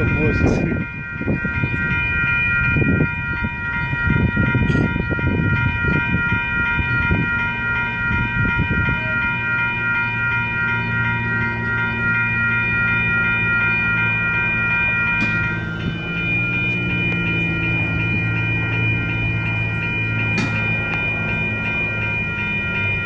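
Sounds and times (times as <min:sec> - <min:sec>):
low engine drone: 0:00.0 - 0:23.0
railroad crossing bells ringing: 0:00.0 - 0:23.0.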